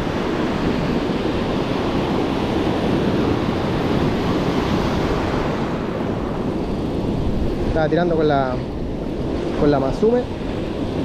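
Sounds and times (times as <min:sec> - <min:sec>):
surf washing on a beach: 0:00.0 - 0:11.0
wind buffeting microphone: 0:00.0 - 0:11.0.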